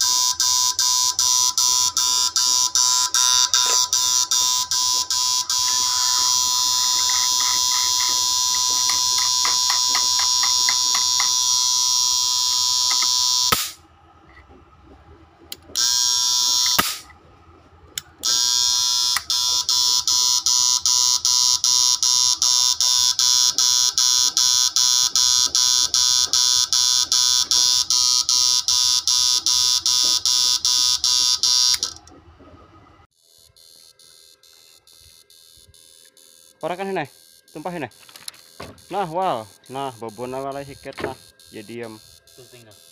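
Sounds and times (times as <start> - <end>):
shrill pulsing inverter buzz: 0.0 - 42.9.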